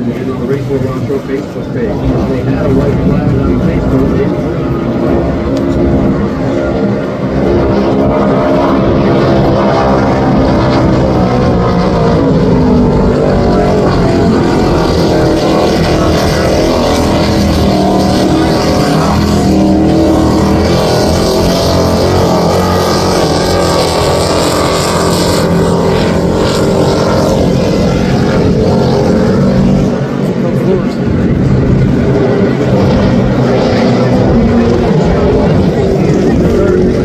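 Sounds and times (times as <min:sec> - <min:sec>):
powerboat engine drone: 0:00.0 - 0:37.0
rush of wake and spray: 0:00.0 - 0:37.0.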